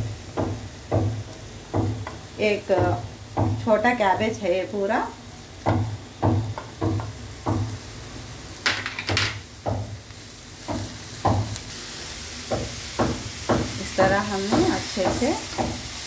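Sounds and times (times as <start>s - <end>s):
faint frying sizzle: 0.0s - 16.0s.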